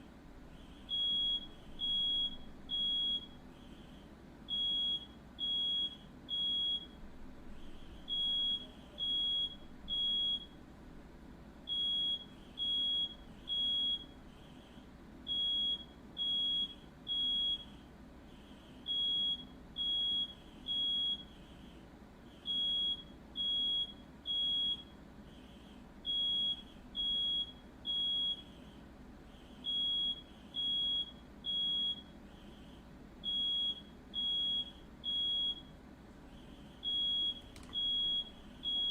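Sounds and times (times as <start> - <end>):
smoke alarm beeping: 0.6 - 10.6, 11.7 - 14.2, 15.3 - 17.8, 18.8 - 21.4, 22.4 - 28.6, 29.6 - 35.8, 36.6 - 38.9.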